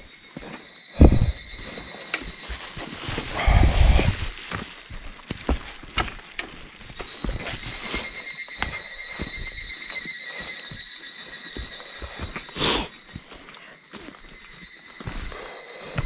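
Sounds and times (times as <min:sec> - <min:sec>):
boots on rock and soil: 0:00.0 - 0:16.0.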